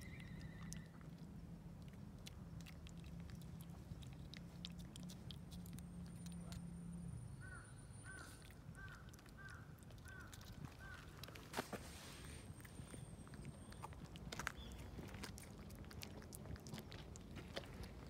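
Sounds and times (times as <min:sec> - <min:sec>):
cat tongue licking: 0:00.0 - 0:07.0, 0:08.2 - 0:11.4, 0:12.5 - 0:18.0.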